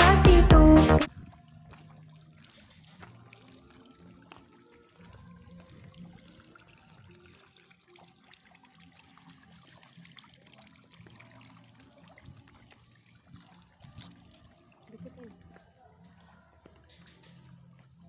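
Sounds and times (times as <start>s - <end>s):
faint water trickling: 1.1s - 18.0s.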